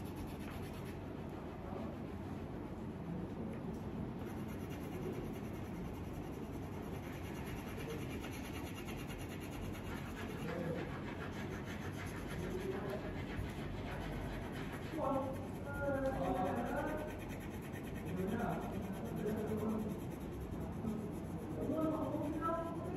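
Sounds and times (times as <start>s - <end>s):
crayon rubbing on paper: 0.0s - 2.1s, 4.2s - 22.9s.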